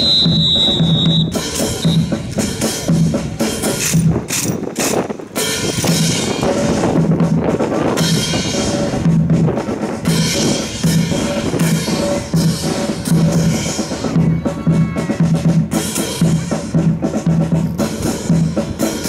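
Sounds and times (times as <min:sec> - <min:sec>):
snare drum strokes: 0:00.0 - 0:19.0.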